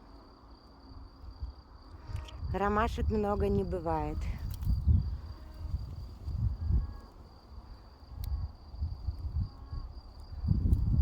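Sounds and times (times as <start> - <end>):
wind rumbling on microphone: 1.0 - 11.0.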